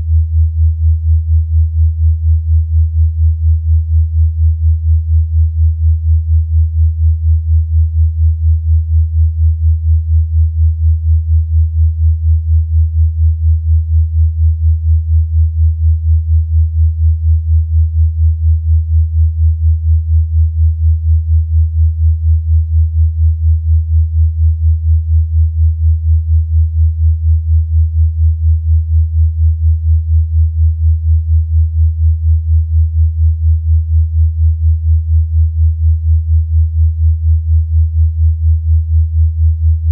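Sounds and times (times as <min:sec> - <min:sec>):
low pulsing sine tone: 0:00.0 - 0:39.9.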